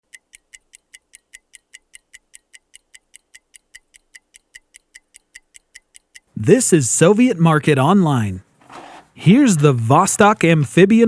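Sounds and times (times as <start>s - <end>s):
watch ticking: 0.0s - 11.0s.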